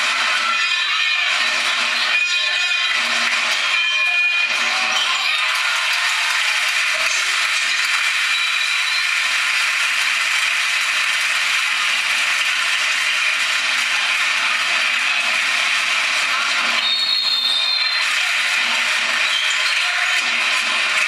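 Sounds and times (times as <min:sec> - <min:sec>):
crowd noise in sports hall: 0:00.0 - 0:21.0.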